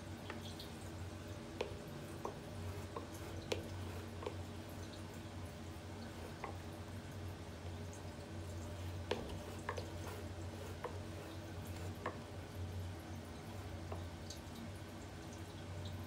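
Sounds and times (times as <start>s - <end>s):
exhaust fan humming: 0.0s - 16.0s.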